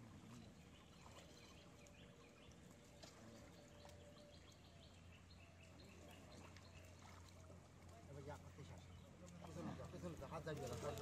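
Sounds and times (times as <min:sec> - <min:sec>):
soft bird chirps: 0:00.0 - 0:11.0.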